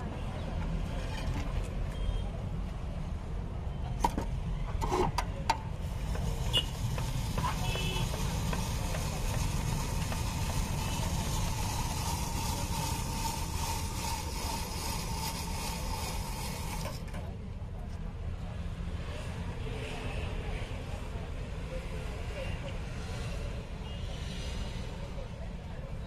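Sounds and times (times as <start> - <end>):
street traffic rumble: 0.0 - 26.0.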